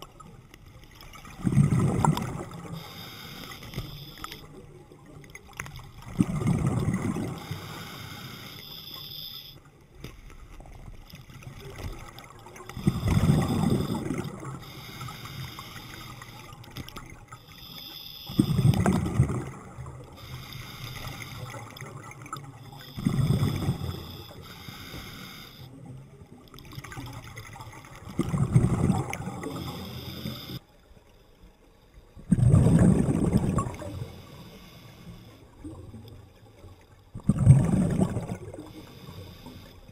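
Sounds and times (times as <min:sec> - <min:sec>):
underwater exhaled air bubbling: 0:00.0 - 0:09.3, 0:10.4 - 0:30.6, 0:32.2 - 0:39.9.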